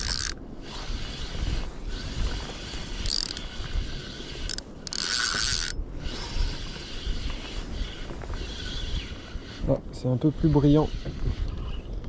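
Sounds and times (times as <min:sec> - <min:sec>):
fishing reel whirring: 0:00.0 - 0:12.0.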